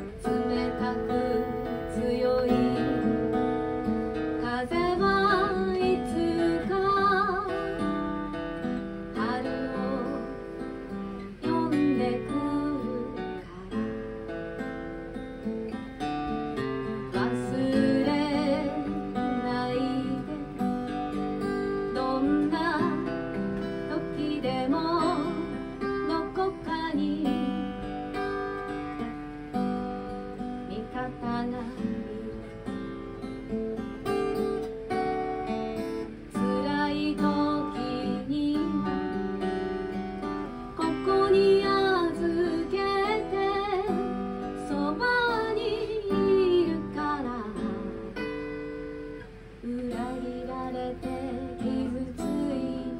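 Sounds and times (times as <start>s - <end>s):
acoustic guitar: 0.0s - 52.9s
woman singing: 0.0s - 52.9s.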